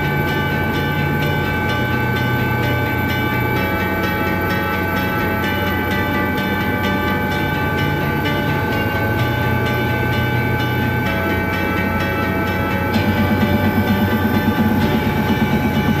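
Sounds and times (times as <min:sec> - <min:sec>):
helicopter rotor and engine drone: 0:00.0 - 0:16.0
high whine tones: 0:00.0 - 0:16.0.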